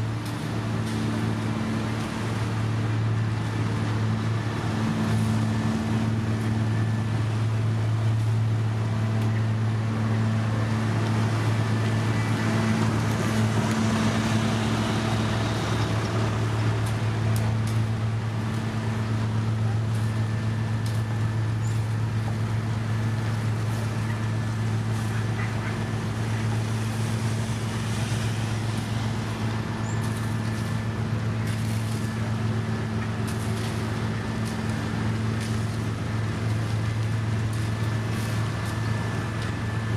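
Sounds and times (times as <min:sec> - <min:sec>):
diesel engine droning: 0:00.0 - 0:39.9
rough mechanical noise: 0:00.0 - 0:39.9.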